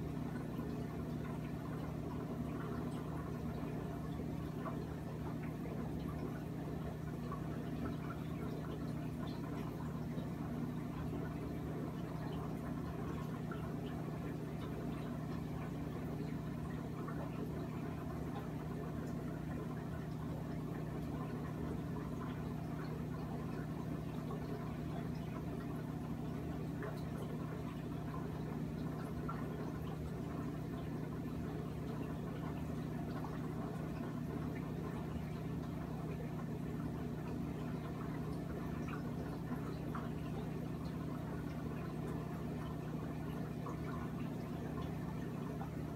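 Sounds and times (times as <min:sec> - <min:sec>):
aquarium equipment hum: 0:00.0 - 0:45.9
bubbling water trickle: 0:00.0 - 0:45.9.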